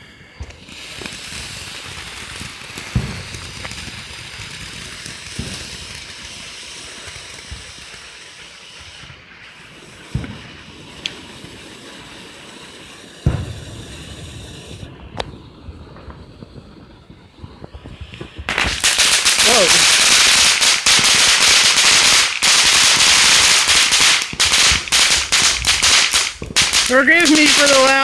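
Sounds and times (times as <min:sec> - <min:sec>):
fireworks hissing burn: 0:00.0 - 0:28.0
fireworks sharp bangs: 0:00.3 - 0:28.0.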